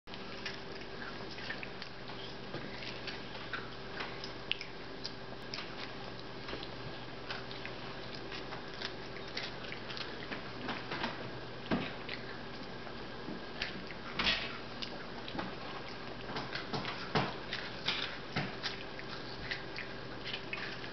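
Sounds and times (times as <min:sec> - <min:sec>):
toddlers chewing crackers: 0:00.1 - 0:20.9.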